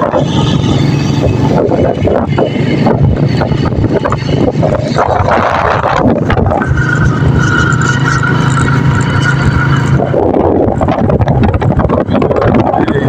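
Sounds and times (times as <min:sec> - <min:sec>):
motorcycle engine humming: 0:00.0 - 0:13.0
wind and road noise: 0:00.0 - 0:13.0.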